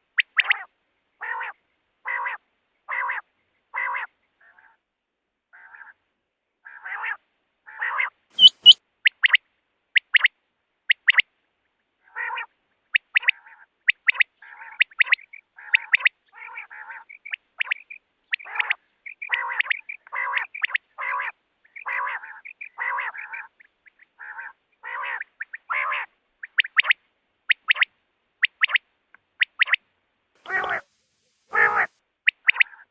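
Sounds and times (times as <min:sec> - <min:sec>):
quail calling: 0:00.2 - 0:04.8, 0:05.5 - 0:06.0, 0:06.6 - 0:09.4, 0:12.0 - 0:28.8, 0:29.4 - 0:29.8, 0:30.4 - 0:30.9, 0:31.5 - 0:32.9.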